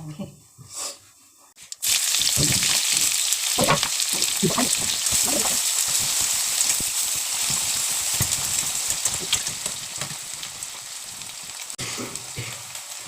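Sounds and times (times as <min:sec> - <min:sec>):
onions sizzling in oil: 0:01.6 - 0:13.0.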